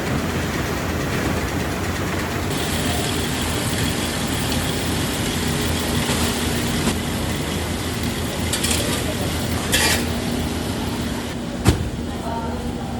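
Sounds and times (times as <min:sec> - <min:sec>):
machinery running with low hum: 0:00.0 - 0:12.9.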